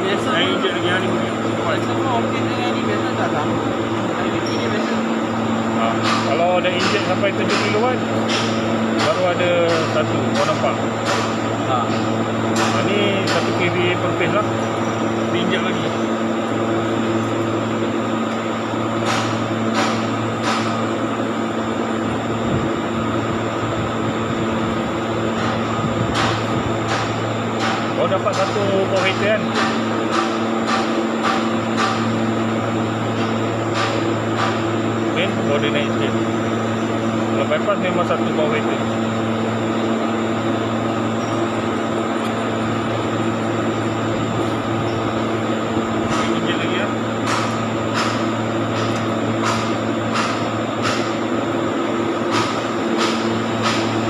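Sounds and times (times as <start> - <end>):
cooling fan noise: 0.0 - 54.0
electrical hum: 0.0 - 54.0.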